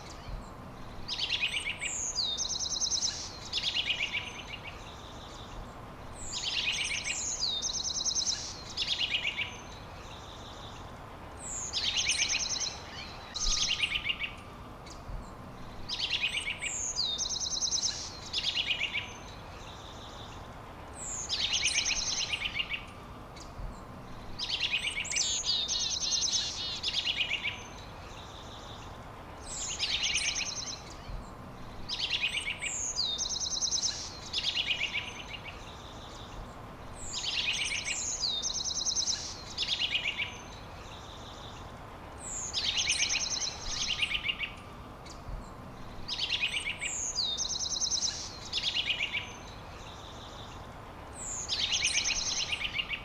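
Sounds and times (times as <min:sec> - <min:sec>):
songbird singing with trill: 0:00.0 - 0:53.0
steady hiss: 0:00.0 - 0:53.0.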